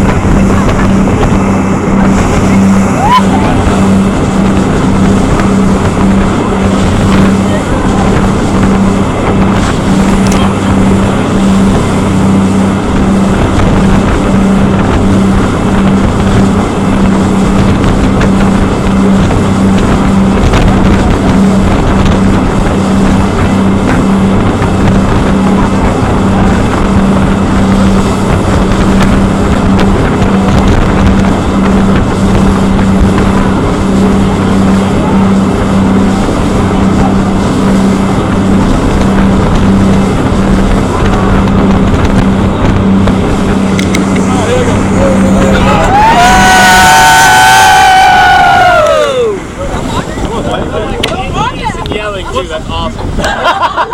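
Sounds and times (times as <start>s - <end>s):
boat engine droning: 0.0s - 53.9s
wind buffeting microphone: 0.0s - 53.9s.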